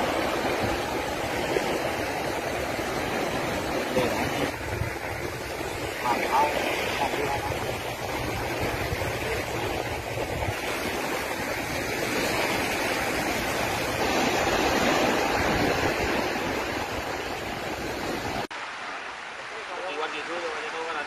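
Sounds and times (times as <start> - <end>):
rushing beach noise: 0.0 - 21.0.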